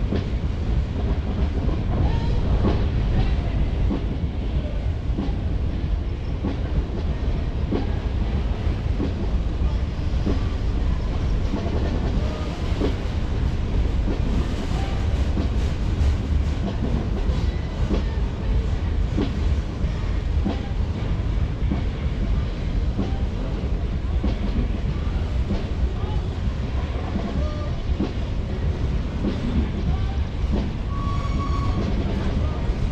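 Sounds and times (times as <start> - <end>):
freight train rumbling: 0.0 - 32.9.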